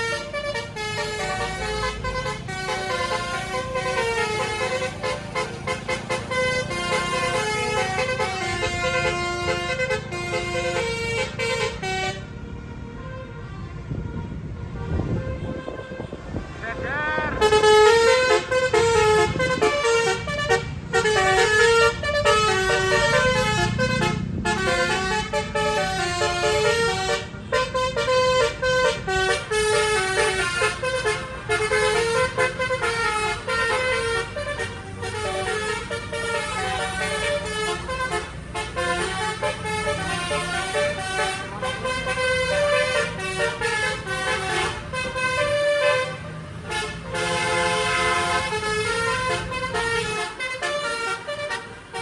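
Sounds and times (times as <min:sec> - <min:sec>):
air horns playing melody: 0:00.0 - 0:52.0
bus engine running: 0:00.0 - 0:52.0.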